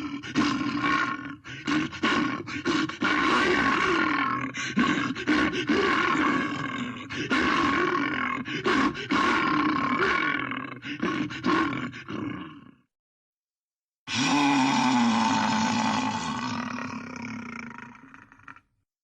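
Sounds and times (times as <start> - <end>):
harsh roaring creature calls: 0.0 - 12.8, 14.1 - 18.7.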